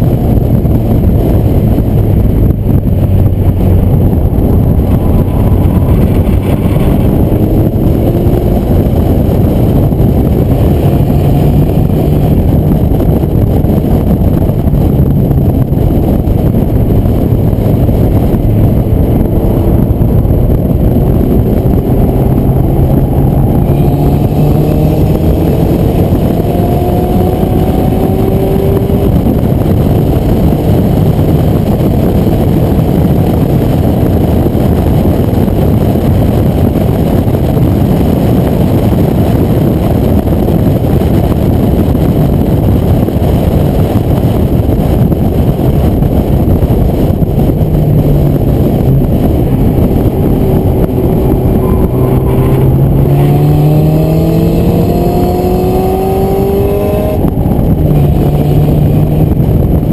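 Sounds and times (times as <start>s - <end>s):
car engine accelerating: 0.0s - 59.9s
wind rush: 0.0s - 59.9s.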